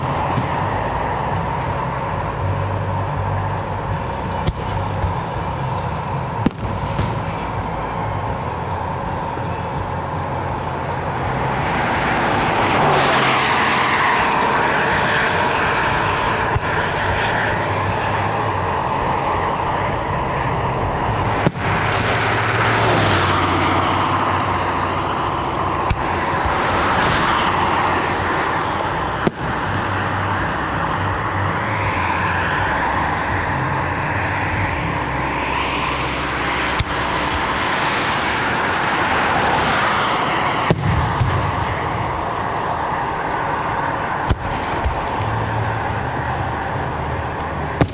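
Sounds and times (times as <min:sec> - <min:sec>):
steady low hum: 0:00.0 - 0:39.2
highway traffic passing: 0:00.0 - 0:47.9.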